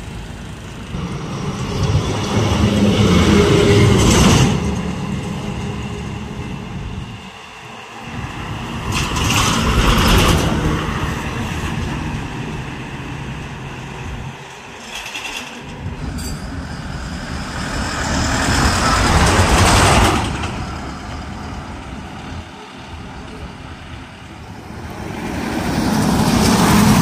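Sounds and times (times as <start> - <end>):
trucks driving past: 0.0 - 27.0.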